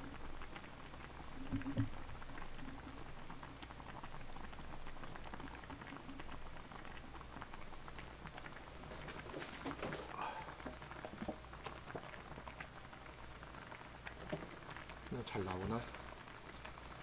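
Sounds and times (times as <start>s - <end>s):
hot pot bubbling at a boil: 0.0s - 17.0s.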